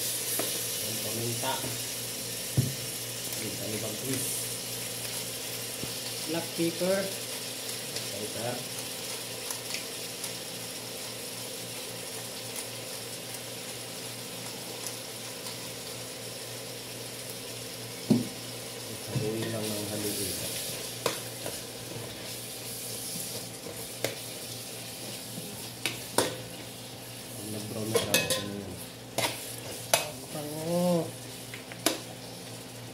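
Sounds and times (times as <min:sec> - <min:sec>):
chicken sizzling in pot: 0:00.0 - 0:32.9.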